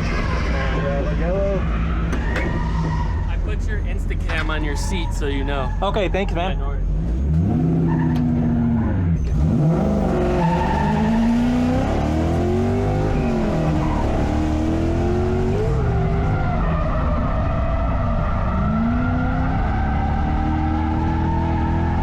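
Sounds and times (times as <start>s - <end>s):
car engine revving: 0.0s - 22.0s
tyres skidding: 0.0s - 22.0s.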